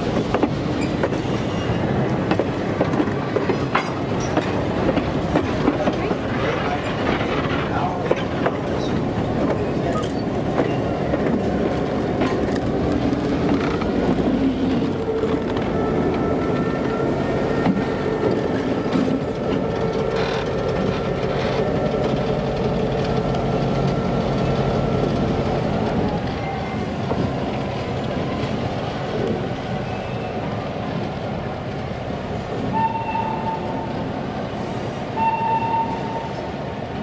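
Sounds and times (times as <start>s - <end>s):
train wheels clattering on rails: 0.0s - 30.0s
diesel locomotive engine: 0.0s - 37.0s.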